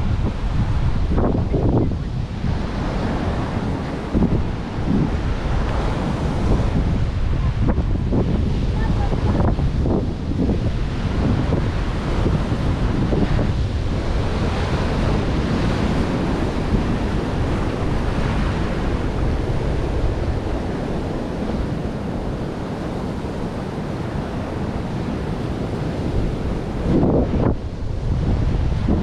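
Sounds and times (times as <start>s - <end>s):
ocean surf washing in: 0.0s - 29.0s
wind buffeting microphone: 0.0s - 29.0s.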